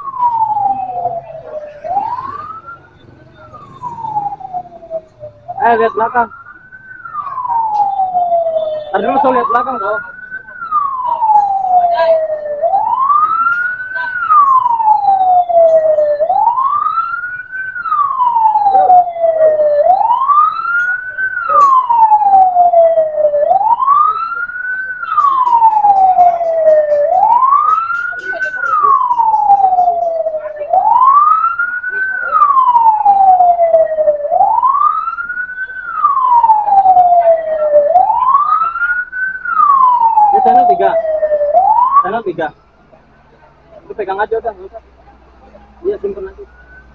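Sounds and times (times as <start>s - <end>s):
fire engine siren wailing: 0.0s - 46.9s.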